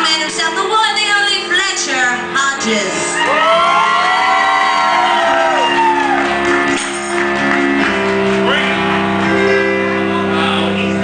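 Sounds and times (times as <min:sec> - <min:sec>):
live music with held chords: 0:00.0 - 0:11.0.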